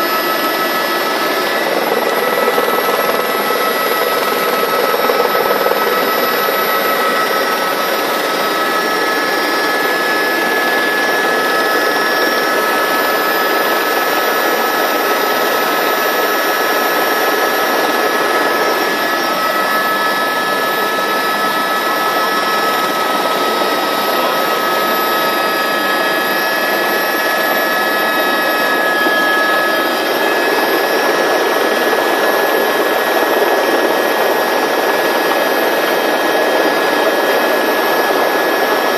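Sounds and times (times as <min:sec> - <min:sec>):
helicopter engine and rotor din: 0:00.0 - 0:38.9.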